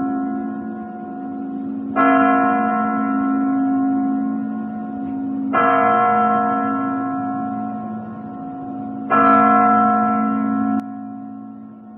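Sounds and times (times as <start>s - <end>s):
large church bell ringing: 0.0s - 11.9s.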